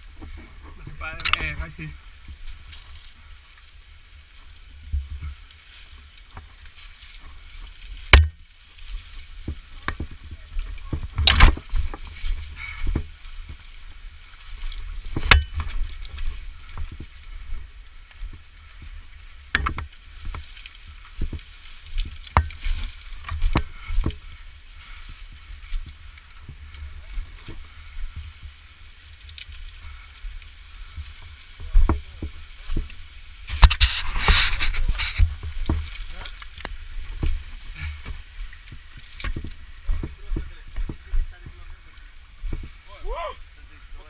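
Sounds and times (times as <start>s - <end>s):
climbing gear knocking and clinking: 4.8s - 42.9s.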